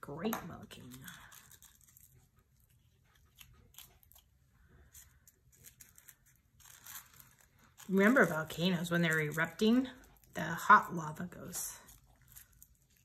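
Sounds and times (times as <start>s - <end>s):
paper crinkling: 0.4s - 10.4s, 11.2s - 13.0s.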